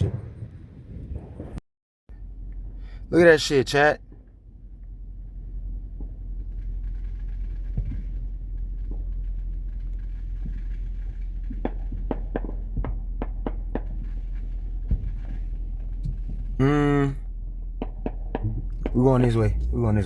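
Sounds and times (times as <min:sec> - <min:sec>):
car engine and road noise: 0:02.1 - 0:20.0.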